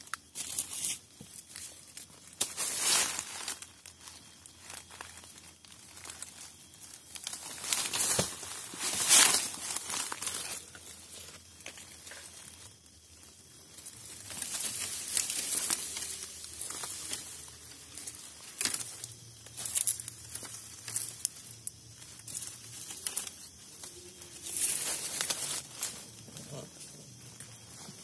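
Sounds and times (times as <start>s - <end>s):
dry leaves crackling underfoot: 0.0s - 28.0s.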